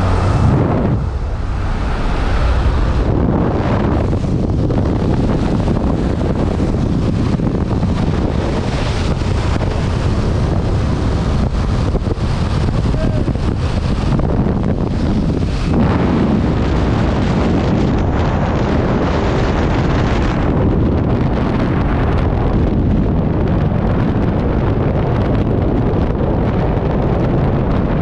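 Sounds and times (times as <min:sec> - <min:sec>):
aircraft engine drone: 0:00.0 - 0:24.8
wind buffeting microphone: 0:00.0 - 0:28.0.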